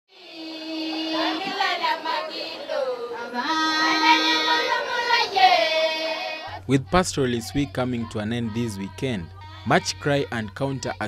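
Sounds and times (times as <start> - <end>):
women and girls singing: 0.1 - 11.0.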